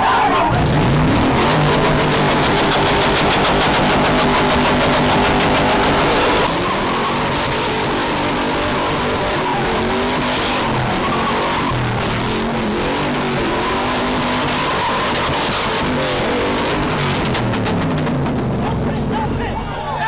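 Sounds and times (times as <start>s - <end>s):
car engines revving: 0.0s - 20.0s
tyre squeal: 0.9s - 17.3s.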